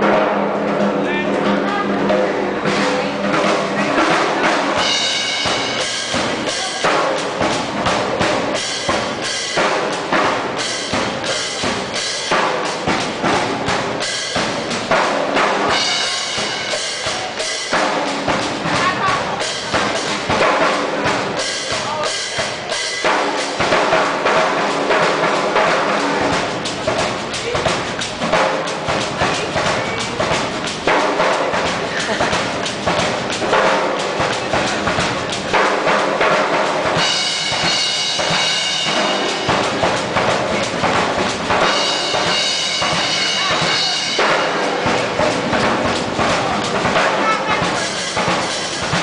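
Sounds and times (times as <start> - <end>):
fast drumming: 0.0 - 49.0.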